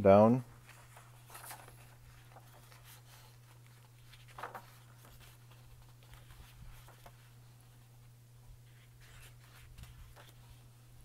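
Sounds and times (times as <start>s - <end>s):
paper pages rustling: 0.5s - 11.0s.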